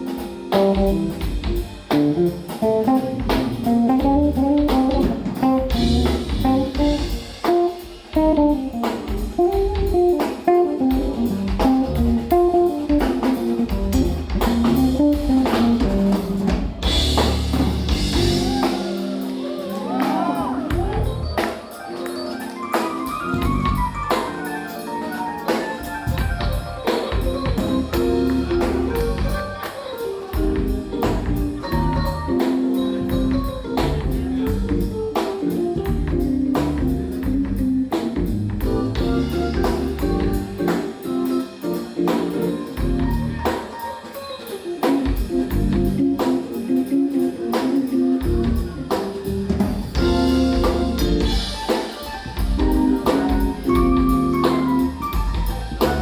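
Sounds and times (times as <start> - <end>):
electric bass: 0.0 - 18.9, 20.4 - 21.4, 23.2 - 24.3, 25.8 - 29.6, 30.4 - 41.4, 42.1 - 43.6, 45.0 - 56.0
drum kit groove: 0.0 - 56.0
keyboards: 0.0 - 56.0.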